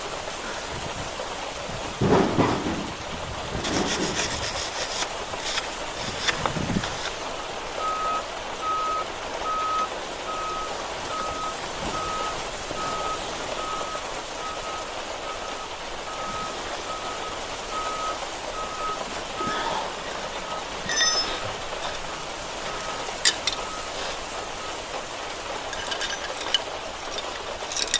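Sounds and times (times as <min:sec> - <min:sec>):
background hiss: 0:00.0 - 0:27.9.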